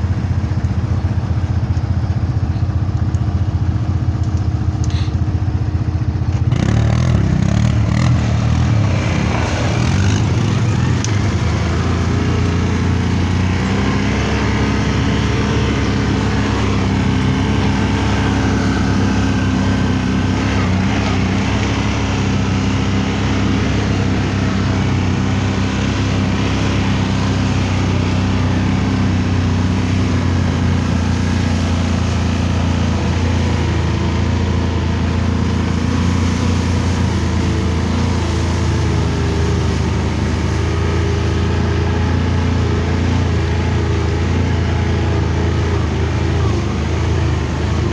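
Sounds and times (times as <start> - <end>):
quad bike engine running: 0.0 - 47.9.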